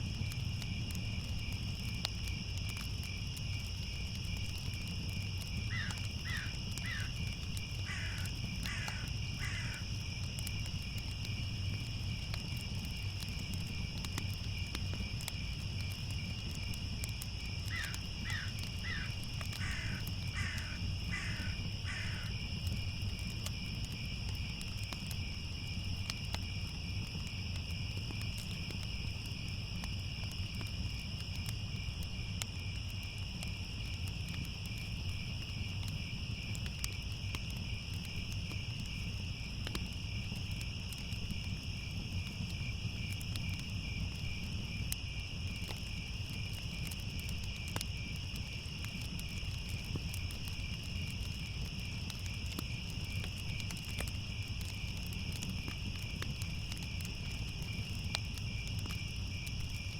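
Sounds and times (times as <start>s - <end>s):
crickets trilling: 0.0s - 59.9s
fire rumbling and crackling: 0.0s - 59.9s.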